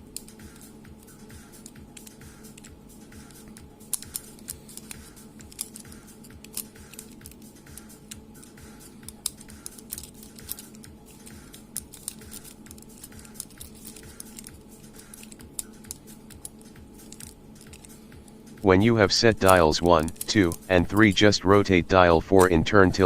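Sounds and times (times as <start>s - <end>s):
padlock dials clicking: 0.0s - 18.4s, 19.1s - 21.3s.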